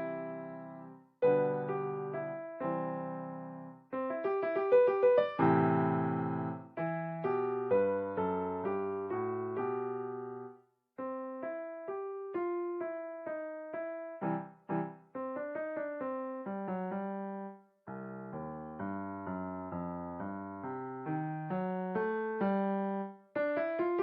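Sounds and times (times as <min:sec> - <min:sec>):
solo piano playing: 0:00.0 - 0:24.0.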